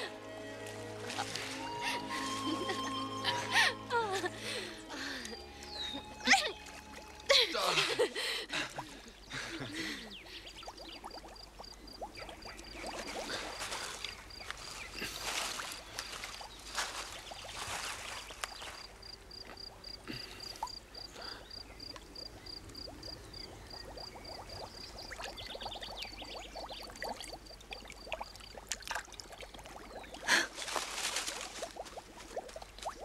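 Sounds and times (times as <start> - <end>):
water splashing and trickling: 0.0 - 33.0.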